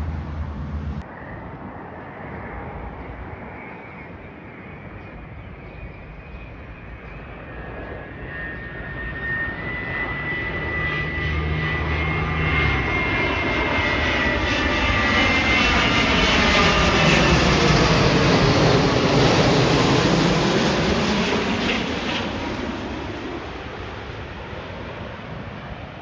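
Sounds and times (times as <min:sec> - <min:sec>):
airliner engine rush: 0:00.0 - 0:26.0.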